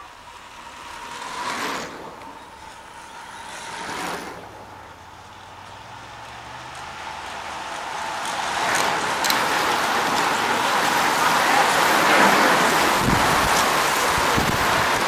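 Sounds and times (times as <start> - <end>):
bicycle tyres and freewheels whirring: 0.0 - 15.0.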